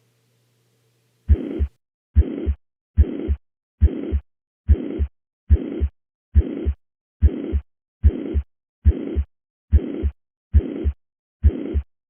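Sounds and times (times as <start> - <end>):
heartbeat through stethoscope: 1.3 - 11.9
high-pitched heart murmur: 1.3 - 11.9.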